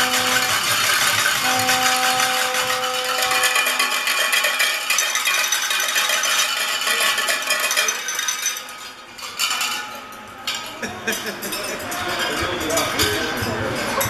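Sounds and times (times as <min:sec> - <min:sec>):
handheld noisemakers rattling: 0:00.0 - 0:14.0
light clinks: 0:00.0 - 0:14.0.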